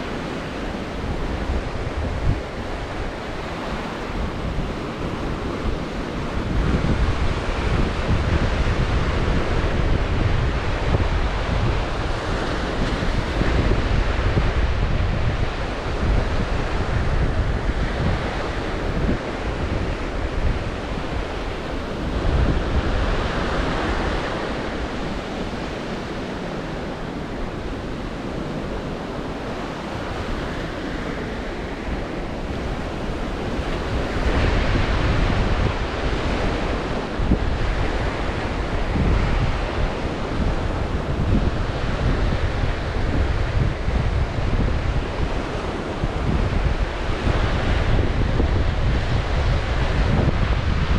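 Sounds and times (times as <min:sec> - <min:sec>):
waves breaking on shore: 0:00.0 - 0:50.9
wind buffeting microphone: 0:00.0 - 0:50.9.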